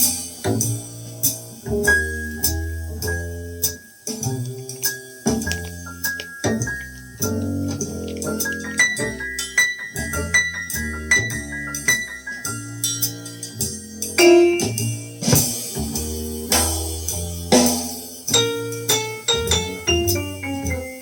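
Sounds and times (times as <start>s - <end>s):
percussion strikes: 0.0s - 21.0s
piano: 0.0s - 21.0s
bass line: 0.4s - 4.7s, 5.3s - 21.0s.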